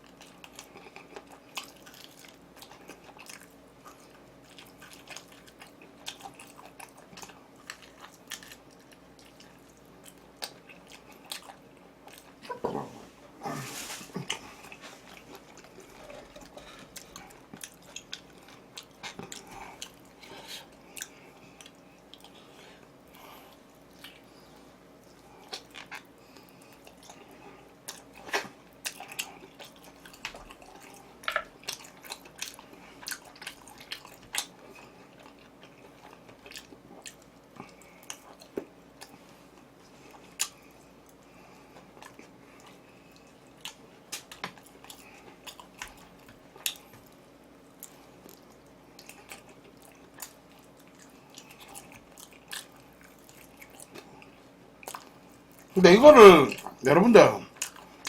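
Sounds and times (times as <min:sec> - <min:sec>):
person chewing food: 0:00.0 - 0:56.8, 0:57.4 - 0:58.0
faint steady hum: 0:00.0 - 0:58.0.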